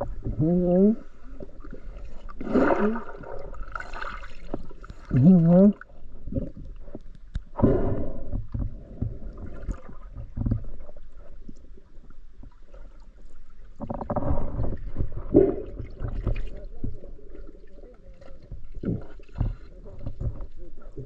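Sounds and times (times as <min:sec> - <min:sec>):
water sloshing and gurgling: 0:00.0 - 0:21.0.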